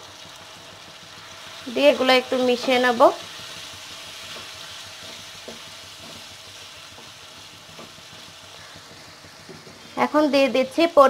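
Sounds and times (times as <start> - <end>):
meat sizzling in oil: 0.0 - 11.0
spatula stirring meat: 0.3 - 10.2.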